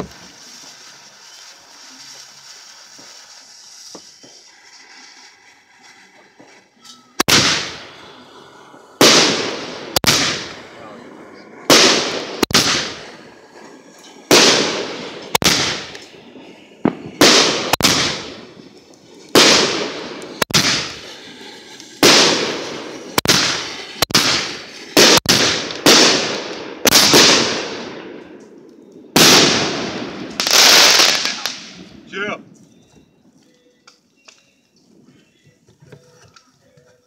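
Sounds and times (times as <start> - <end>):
fireworks bursting: 0.0 - 32.2.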